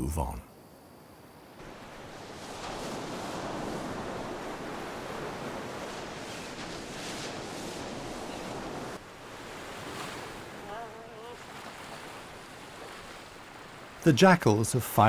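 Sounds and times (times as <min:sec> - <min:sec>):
ocean surf breaking: 0:01.6 - 0:15.0.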